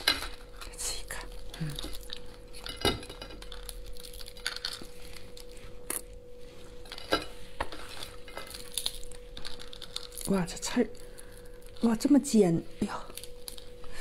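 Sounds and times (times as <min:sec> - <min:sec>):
lobster shell cracking: 0:00.0 - 0:06.2, 0:06.9 - 0:11.9, 0:13.1 - 0:13.9.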